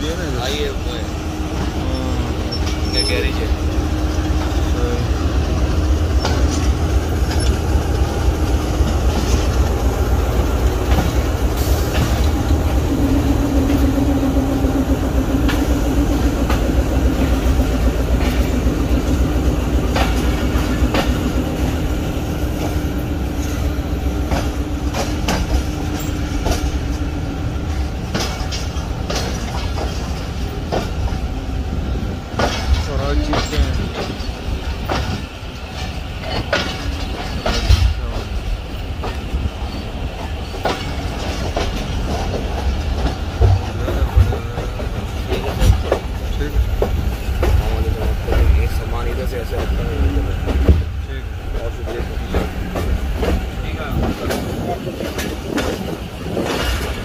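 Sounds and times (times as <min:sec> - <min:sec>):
train wheels rumbling on track: 0:00.0 - 0:57.0
wheels clacking over rail joints: 0:00.0 - 0:57.0.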